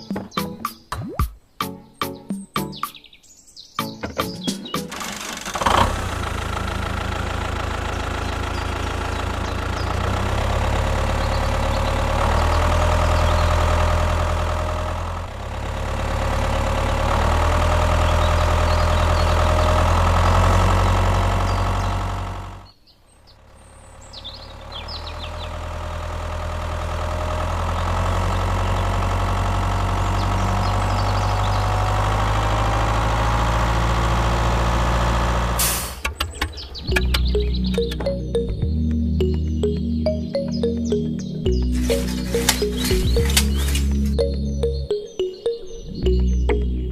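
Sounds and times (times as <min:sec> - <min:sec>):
engine running: 0:04.1 - 0:46.9.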